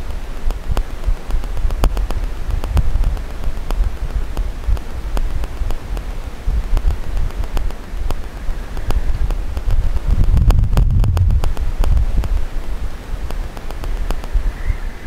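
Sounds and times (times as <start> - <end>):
sharp ticks: 0.0 - 15.0
wind buffeting microphone: 0.0 - 15.0.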